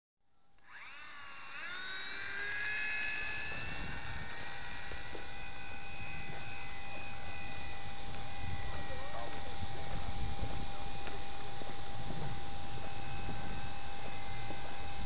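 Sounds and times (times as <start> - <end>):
model airplane motor whine: 0.4 - 15.0.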